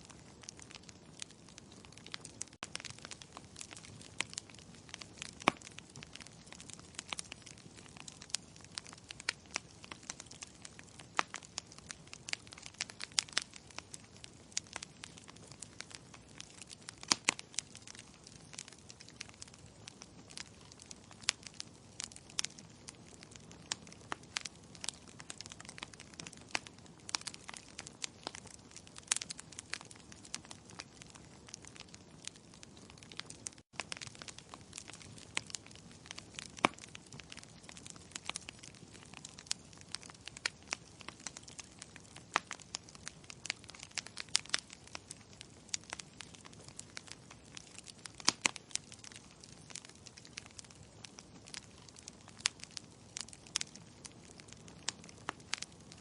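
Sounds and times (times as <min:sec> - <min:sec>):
logs crackling and popping: 0:00.0 - 0:56.0.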